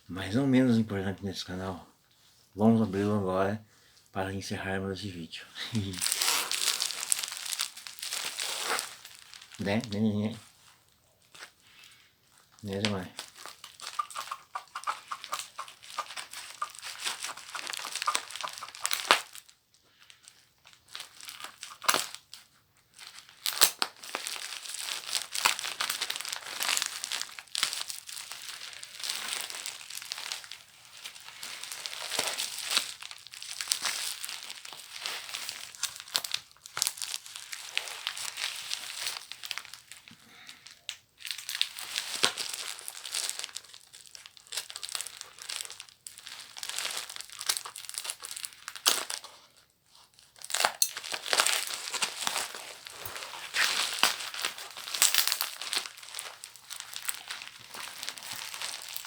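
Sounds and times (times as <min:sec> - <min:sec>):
paper packaging crinkling and tearing: 0:05.6 - 0:59.0.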